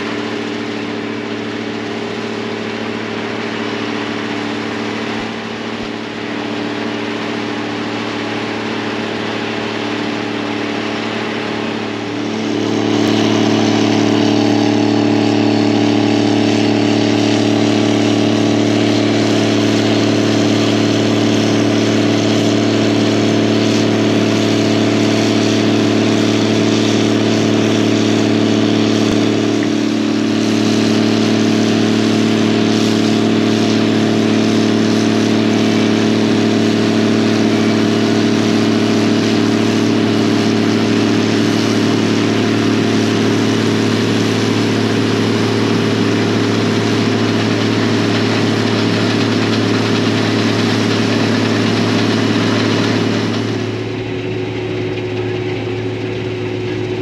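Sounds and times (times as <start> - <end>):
combine harvester machinery drone: 0.0 - 57.0
quiet engine running: 0.0 - 57.0.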